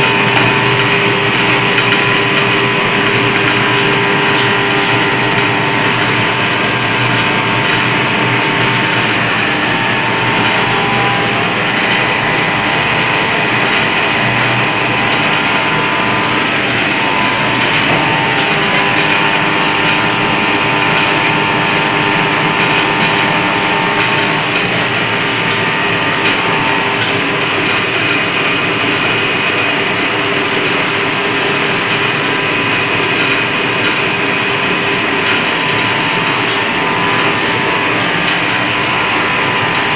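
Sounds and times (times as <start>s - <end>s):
packaging machine running: 0.0s - 39.9s.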